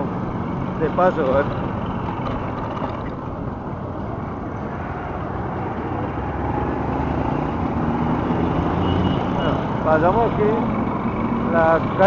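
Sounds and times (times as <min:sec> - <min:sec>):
surrounding traffic noise: 0:00.0 - 0:12.0.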